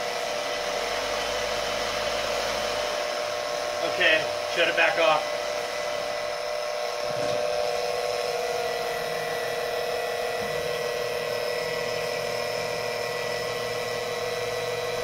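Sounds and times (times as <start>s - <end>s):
electric pump motor whine: 0.0s - 15.0s.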